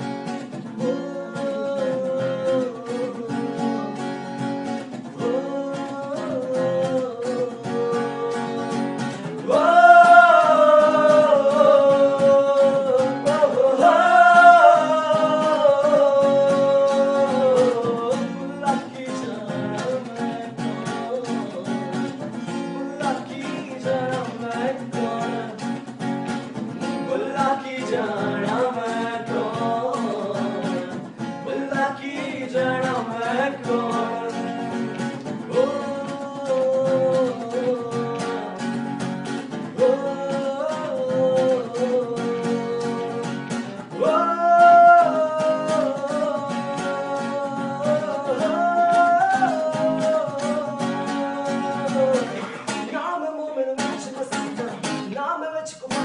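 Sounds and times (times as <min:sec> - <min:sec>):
man singing: 0:00.0 - 0:56.0
strummed acoustic guitar: 0:00.0 - 0:56.0.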